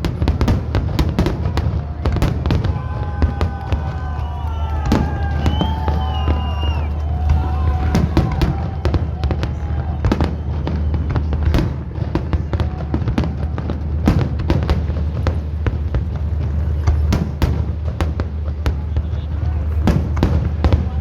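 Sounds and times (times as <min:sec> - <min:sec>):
firework bangs and crackles: 0:00.0 - 0:21.0.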